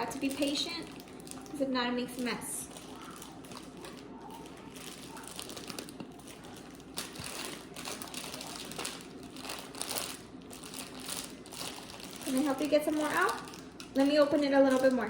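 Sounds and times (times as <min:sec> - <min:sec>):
packet crinkling and rustling: 0:00.0 - 0:15.0.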